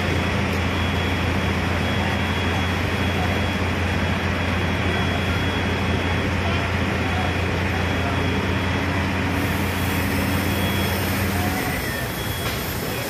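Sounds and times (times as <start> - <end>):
continuous rushing noise: 0.0 - 13.0
large engine humming: 0.0 - 13.0.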